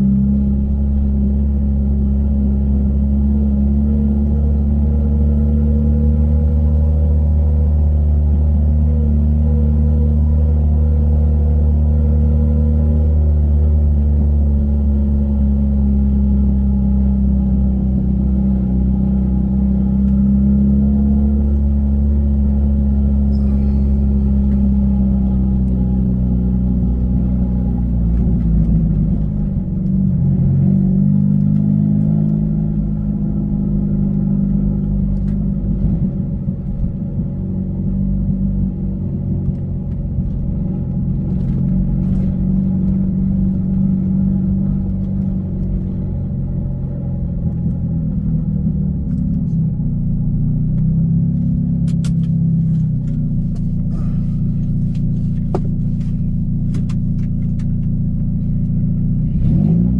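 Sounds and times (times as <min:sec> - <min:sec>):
car engine droning at low revs: 0:00.0 - 0:59.9.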